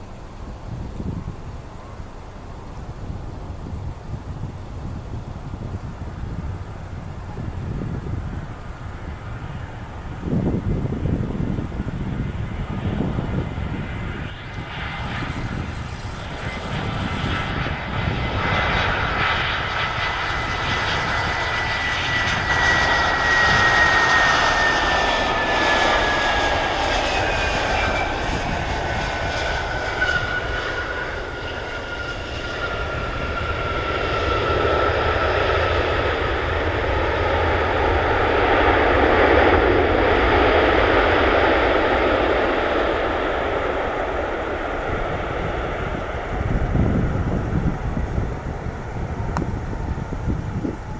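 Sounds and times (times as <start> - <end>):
jet engines roaring: 0.0 - 50.9.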